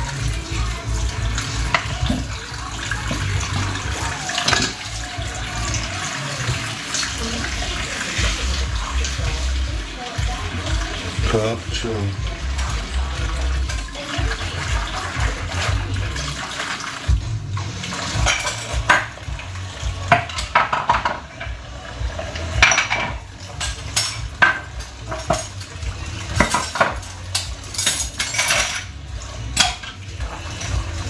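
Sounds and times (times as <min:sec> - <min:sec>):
dishes and cutlery clattering: 0:00.0 - 0:31.0.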